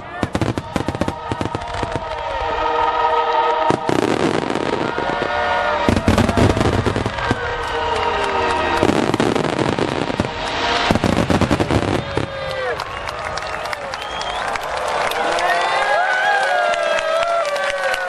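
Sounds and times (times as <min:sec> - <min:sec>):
fireworks bangs and crackle: 0:00.0 - 0:15.4
show music: 0:00.0 - 0:17.0.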